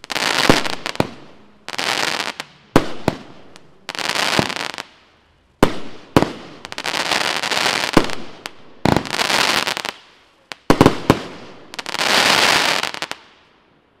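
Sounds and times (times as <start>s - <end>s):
firework bangs: 0.0s - 4.9s, 5.6s - 10.0s, 10.6s - 13.3s
firework crackle: 0.0s - 13.5s.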